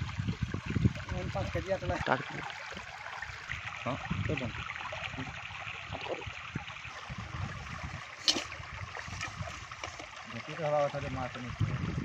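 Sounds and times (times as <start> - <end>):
stream water trickling: 0.0 - 12.0.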